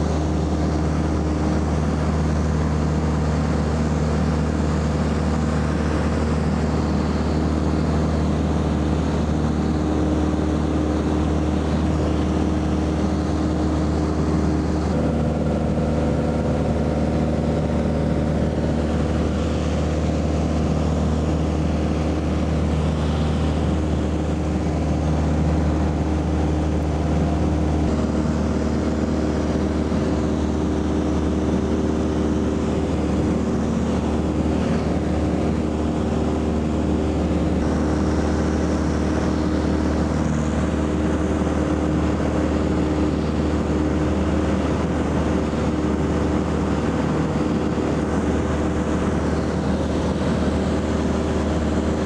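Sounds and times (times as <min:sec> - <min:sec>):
propeller aircraft engine droning: 0:00.0 - 0:52.0.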